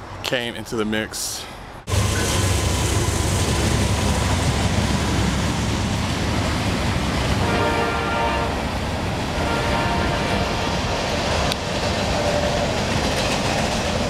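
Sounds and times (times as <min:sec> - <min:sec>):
freight train rumbling past: 0:01.3 - 0:14.0.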